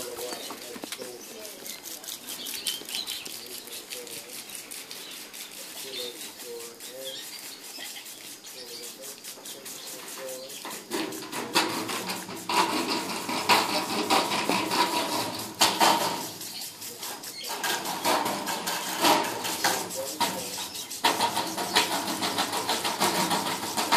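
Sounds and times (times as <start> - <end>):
dog chewing plastic sprinkler: 0.0 - 23.9
sprinkler hiss: 0.0 - 23.9.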